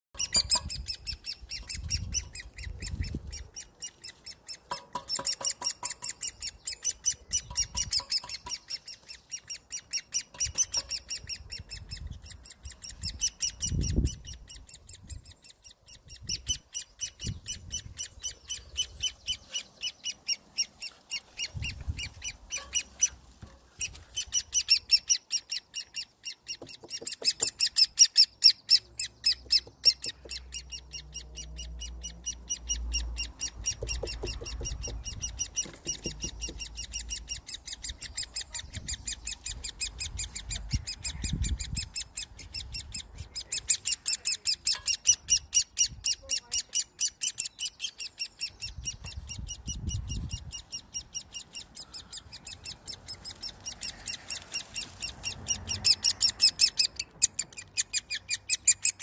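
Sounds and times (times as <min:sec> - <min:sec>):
woodpecker chick begging calls: 0:00.2 - 0:59.0.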